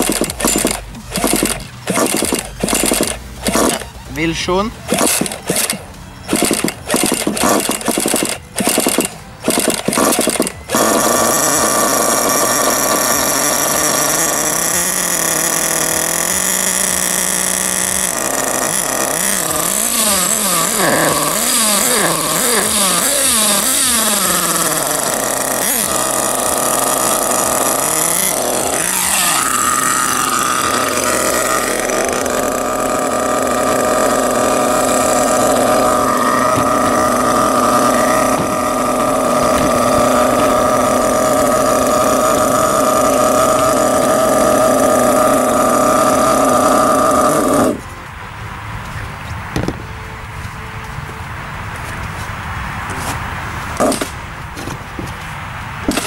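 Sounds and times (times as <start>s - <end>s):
electric starter spinning: 0.0s - 48.0s
nitro engine revving: 0.0s - 48.1s, 52.8s - 54.2s, 55.8s - 56.0s.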